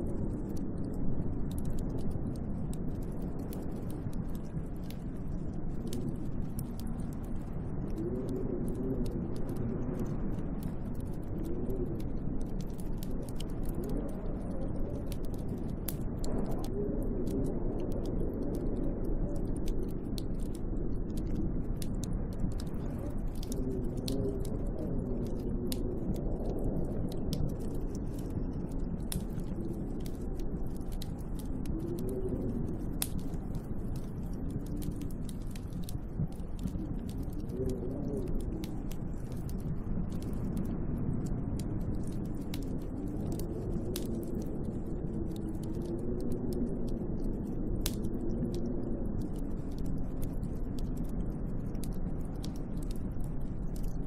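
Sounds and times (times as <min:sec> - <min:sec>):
fine ticks: 0:00.0 - 0:54.0
howling snowstorm wind: 0:00.0 - 0:54.0.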